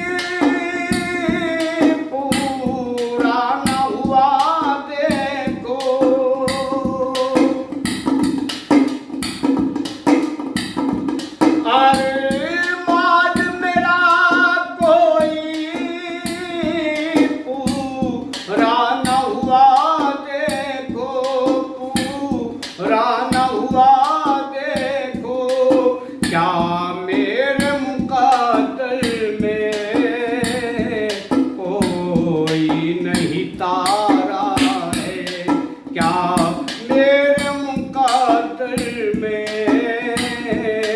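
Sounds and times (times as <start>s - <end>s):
steady drum beat: 0.0s - 40.9s.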